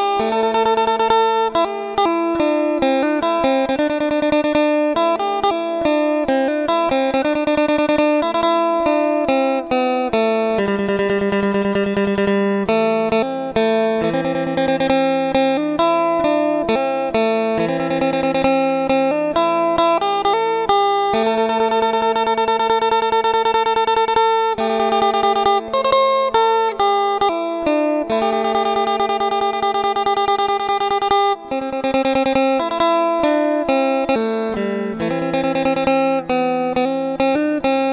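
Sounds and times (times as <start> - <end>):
plucked string instrument melody: 0.0 - 37.9.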